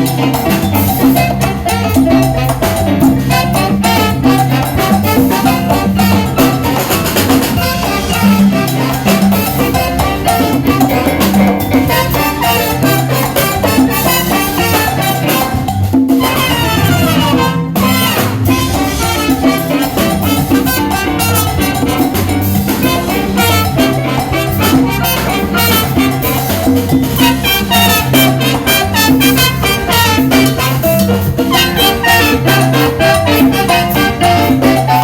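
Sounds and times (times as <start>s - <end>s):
piano figures: 0.0s - 35.0s
salsa band playing: 0.0s - 35.0s.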